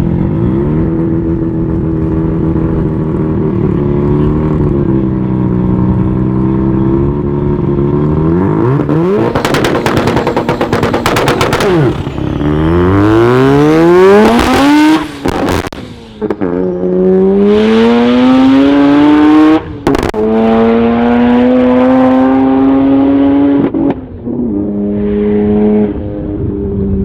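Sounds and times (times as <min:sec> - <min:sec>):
rotary engine accelerating hard: 0:00.0 - 0:27.0.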